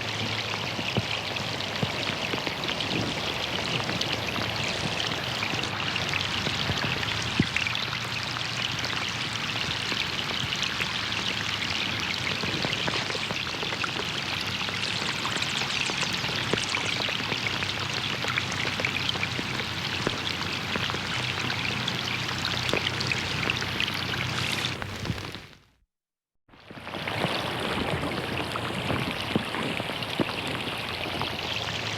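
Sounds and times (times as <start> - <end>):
running water: 0.0 - 25.5, 26.6 - 31.9
rain falling on a pond: 0.0 - 25.7, 26.6 - 31.9.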